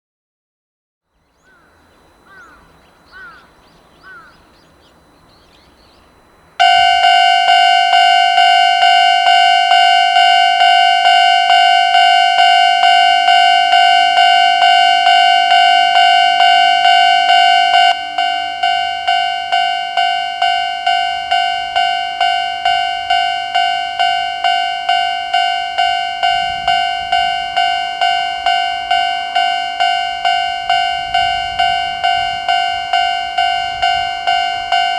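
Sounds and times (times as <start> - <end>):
level-crossing warning alarm: 1.1 - 34.9.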